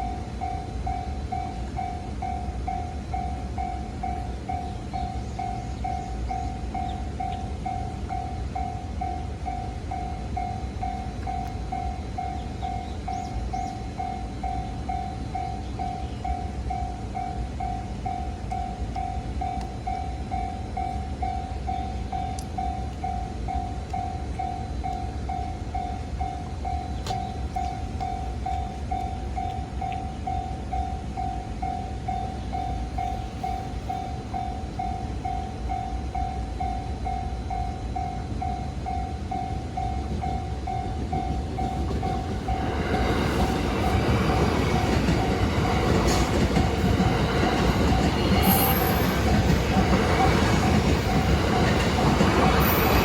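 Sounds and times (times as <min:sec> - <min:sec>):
level-crossing warning bell: 0:00.0 - 0:53.0.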